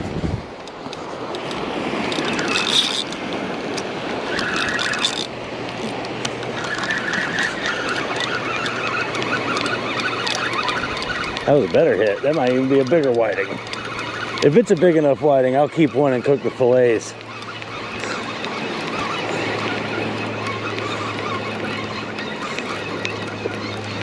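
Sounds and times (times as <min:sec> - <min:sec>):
surf: 0:00.0 - 0:24.0
wind: 0:00.0 - 0:24.0
fishing reel whirring: 0:00.9 - 0:24.0.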